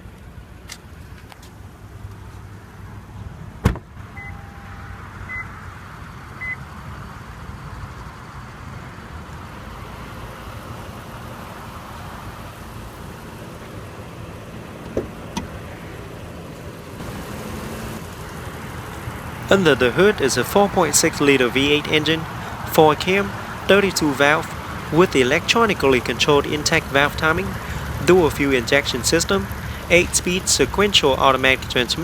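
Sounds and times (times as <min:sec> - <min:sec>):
car engine idling: 0:05.2 - 0:32.0.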